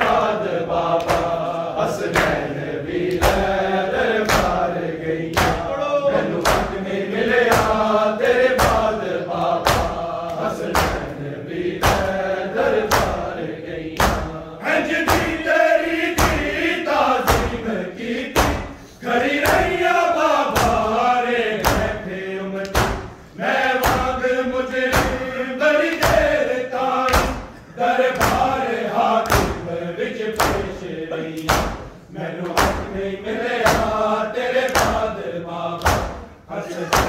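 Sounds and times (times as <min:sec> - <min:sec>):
hands slapping chests: 0:00.0 - 0:05.7, 0:06.3 - 0:17.6, 0:18.3 - 0:19.9, 0:20.5 - 0:20.9, 0:21.6 - 0:22.0, 0:22.6 - 0:29.7, 0:30.4 - 0:33.0, 0:33.6 - 0:35.2, 0:35.8 - 0:37.0
men chanting together: 0:00.0 - 0:37.0.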